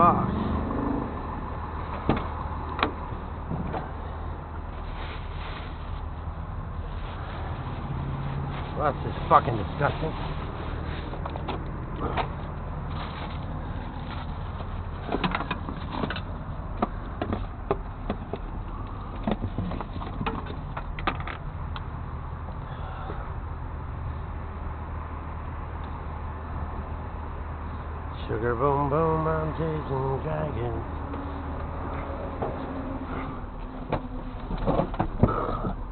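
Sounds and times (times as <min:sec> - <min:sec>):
engine humming: 0:00.0 - 0:35.9.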